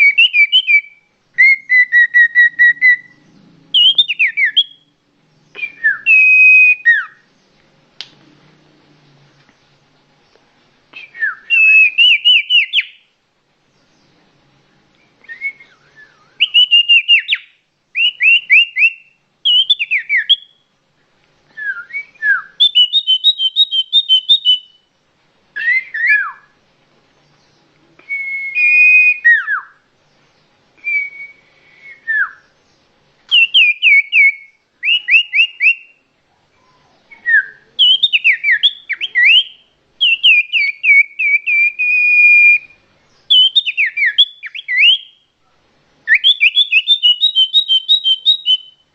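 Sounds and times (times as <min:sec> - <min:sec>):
songbird singing: 0:00.0 - 0:07.8, 0:08.8 - 0:48.9.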